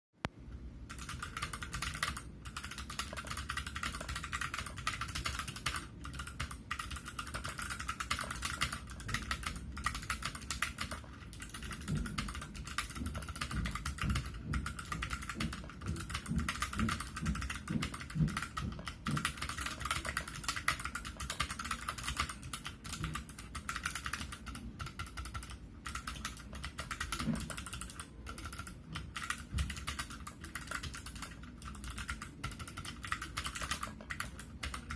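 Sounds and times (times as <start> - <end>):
clicky keyboard typing: 0.5 - 34.9.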